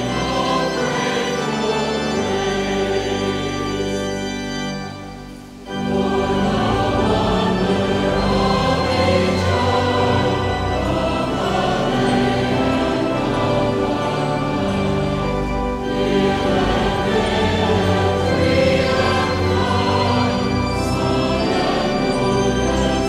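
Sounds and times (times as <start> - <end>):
choir singing with instruments: 0.0 - 23.0.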